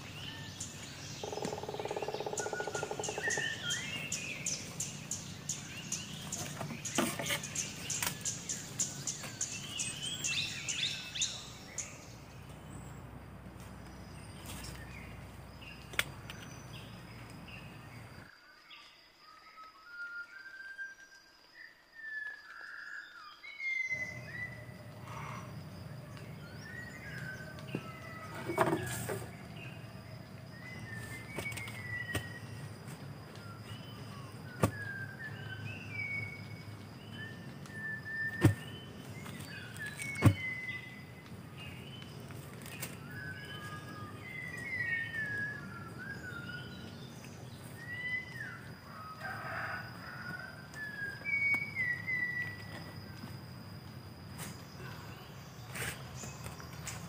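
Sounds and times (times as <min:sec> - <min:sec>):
small birds chirping: 0:00.0 - 0:18.3, 0:23.9 - 0:57.0.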